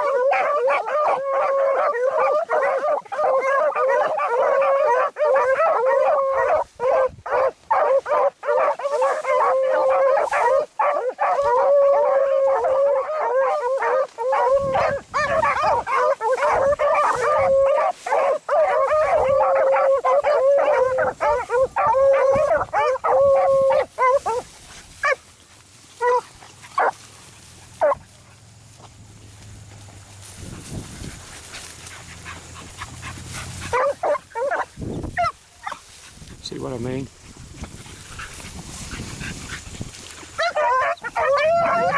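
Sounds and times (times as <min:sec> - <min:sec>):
beagles baying: 0:00.0 - 0:25.3, 0:25.9 - 0:35.9, 0:38.0 - 0:41.9.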